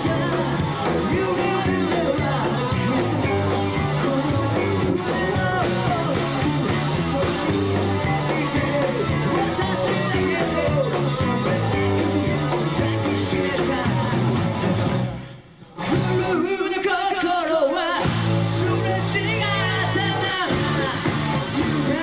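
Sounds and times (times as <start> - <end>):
person singing into microphone: 0.0 - 14.4, 15.8 - 22.0
live rock band playing: 0.0 - 22.0.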